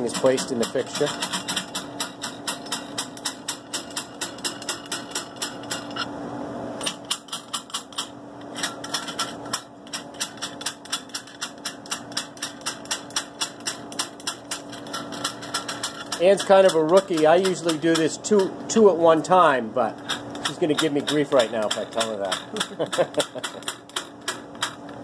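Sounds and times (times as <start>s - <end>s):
rapid mechanical ticking: 0.0s - 6.0s, 8.9s - 18.5s, 20.3s - 24.9s.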